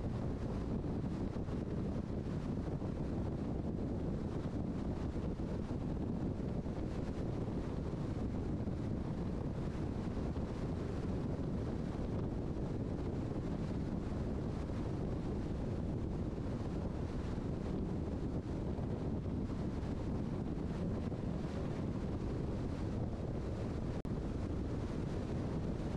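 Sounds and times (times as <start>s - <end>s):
car road and wind noise: 0.0s - 25.9s.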